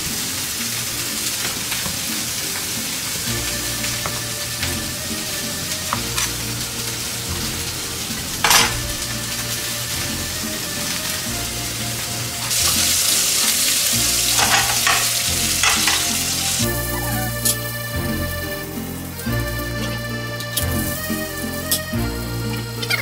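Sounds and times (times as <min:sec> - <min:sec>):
steak sizzling in frying pan: 0:00.0 - 0:23.0.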